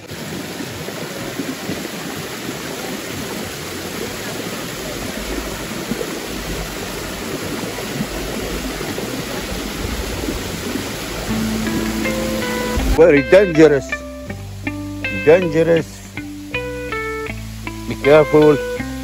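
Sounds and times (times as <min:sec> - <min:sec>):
waterfall rushing over rocks: 0:00.0 - 0:19.0.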